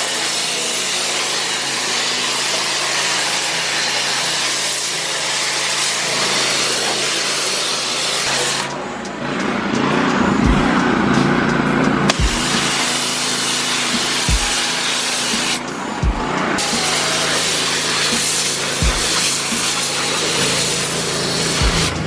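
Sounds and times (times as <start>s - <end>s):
pressure washer engine running: 0.0s - 22.0s
water jet spraying: 0.0s - 22.0s.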